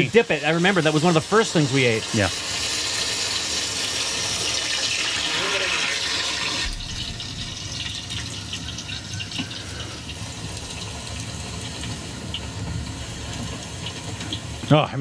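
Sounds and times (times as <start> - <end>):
deep-frying sizzle with crackles: 0.0 - 15.0.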